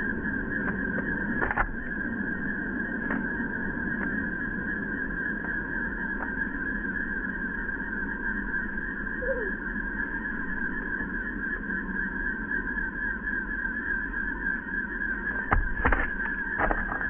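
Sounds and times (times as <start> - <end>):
constant outdoor drone: 0.0 - 17.0.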